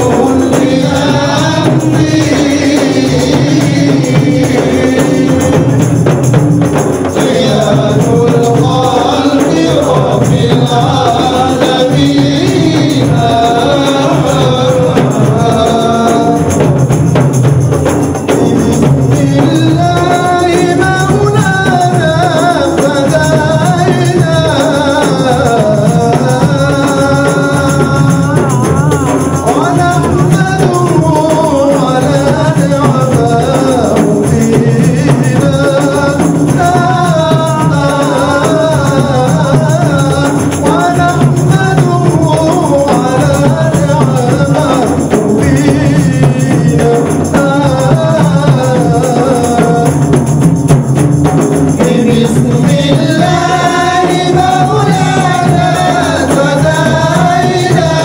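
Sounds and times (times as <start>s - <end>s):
frame drums beating: 0.0s - 58.0s
men singing into a microphone: 0.0s - 58.0s.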